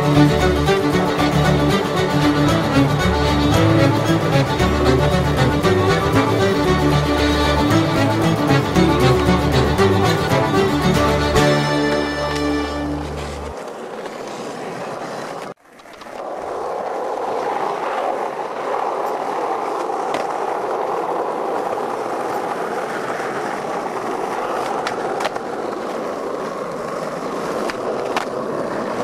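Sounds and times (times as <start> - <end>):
skateboard wheels rolling on asphalt: 0.0 - 29.0.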